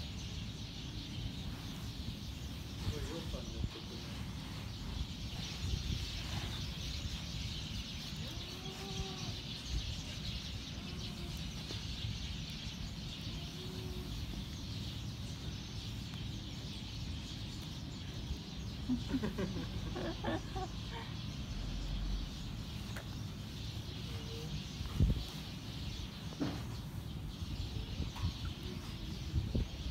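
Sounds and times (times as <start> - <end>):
birds calling: 0.0 - 29.9.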